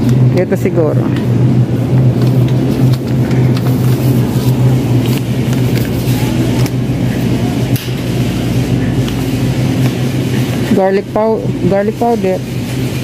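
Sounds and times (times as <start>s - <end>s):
dense rumbling background noise: 0.0s - 13.0s
steady low hum: 0.0s - 13.0s.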